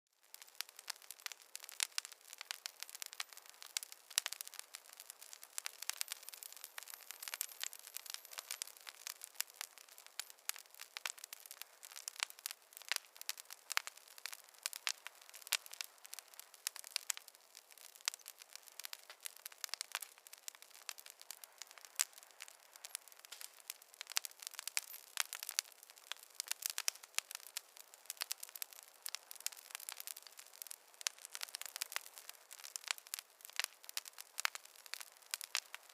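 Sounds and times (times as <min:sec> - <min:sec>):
wood fire crackling: 0:00.2 - 0:35.9.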